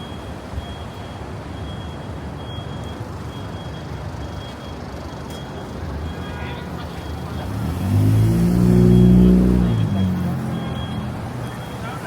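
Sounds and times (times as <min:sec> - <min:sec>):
faint high beep: 0:00.0 - 0:12.0
low rumble of street traffic: 0:00.0 - 0:12.0.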